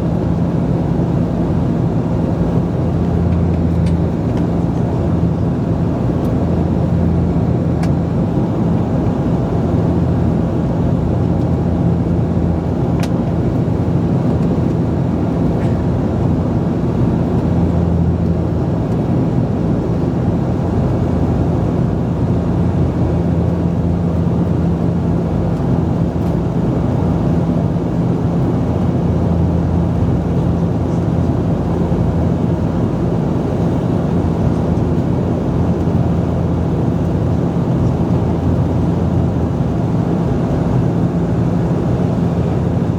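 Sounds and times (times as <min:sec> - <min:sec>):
engine and air rush in cabin: 0:00.0 - 0:42.9
propeller hum: 0:00.0 - 0:42.9.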